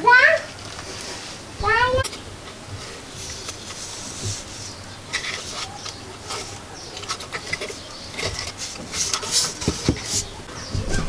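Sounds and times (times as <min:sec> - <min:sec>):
rubbing and scraping of speaker box: 0:00.5 - 0:11.0.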